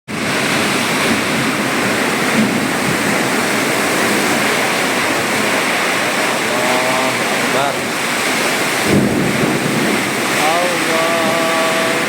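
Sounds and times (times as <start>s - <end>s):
heavy rain in strong wind: 0.1s - 12.0s.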